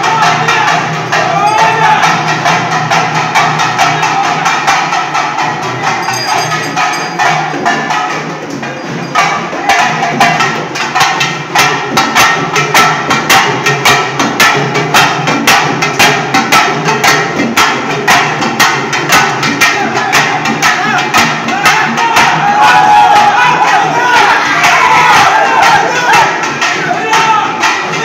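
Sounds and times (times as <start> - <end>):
frame drums beaten with sticks: 0.0 - 28.0.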